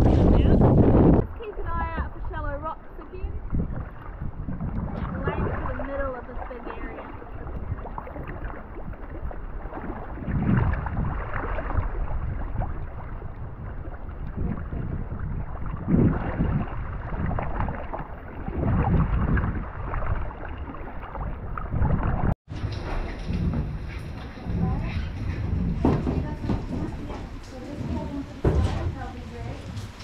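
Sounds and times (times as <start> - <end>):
water splashing around kayak: 0.0 - 30.0
wind rumbling on microphone: 0.0 - 30.0.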